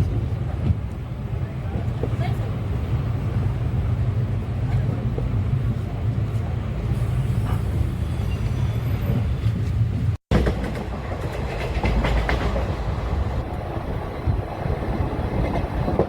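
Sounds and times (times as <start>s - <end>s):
clickety-clack over rail joints: 0.0s - 6.6s, 7.4s - 16.0s
train wheels rumbling: 0.0s - 16.0s.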